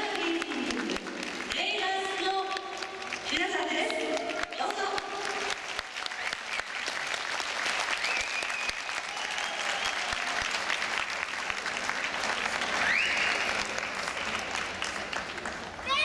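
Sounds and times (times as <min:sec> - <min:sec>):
audience applauding: 0:00.0 - 0:01.7, 0:02.5 - 0:16.0.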